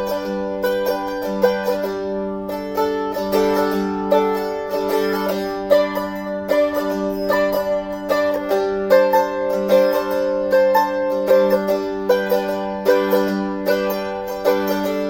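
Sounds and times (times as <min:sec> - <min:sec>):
mandolin picked melody: 0:00.0 - 0:15.0.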